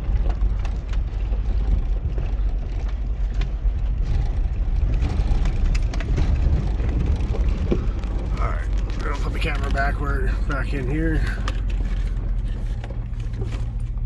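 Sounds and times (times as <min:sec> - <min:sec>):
knocks and rattles over bumps: 0:00.0 - 0:14.0
truck engine and tyres rumbling: 0:00.0 - 0:14.0.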